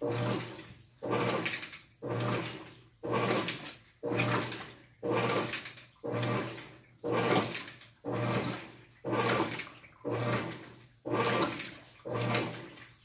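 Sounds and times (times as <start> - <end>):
washing machine water sloshing: 0.0 - 13.0.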